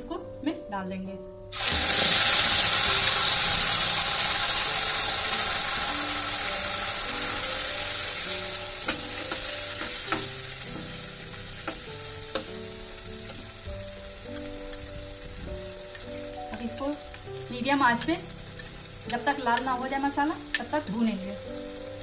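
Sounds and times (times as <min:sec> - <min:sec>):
paste sizzling in hot oil: 0:01.5 - 0:22.0.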